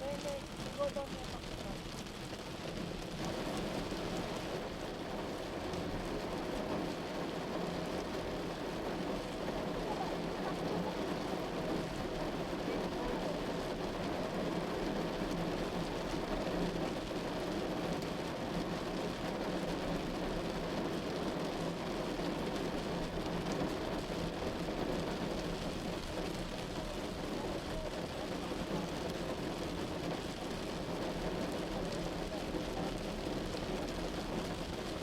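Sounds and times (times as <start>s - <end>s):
rain falling on a car: 0.0s - 35.0s.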